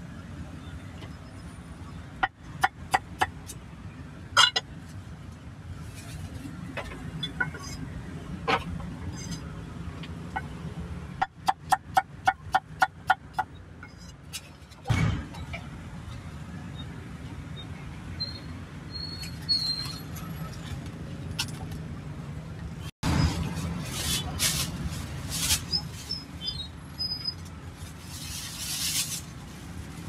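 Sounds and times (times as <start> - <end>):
low traffic rumble: 0.0 - 30.0.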